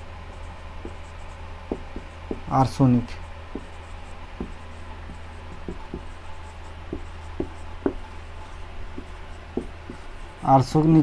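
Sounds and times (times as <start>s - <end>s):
marker writing on whiteboard: 0.0s - 11.0s
steady low hum: 0.0s - 11.0s.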